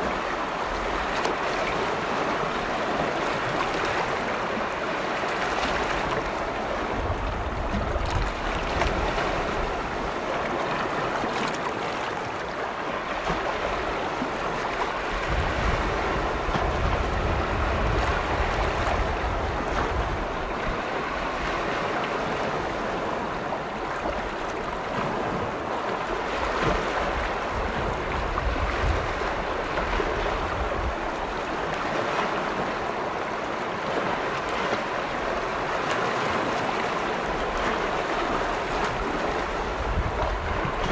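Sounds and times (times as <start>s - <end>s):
waves washing against shore: 0.0s - 40.9s
wind rumble on microphone: 0.0s - 40.9s.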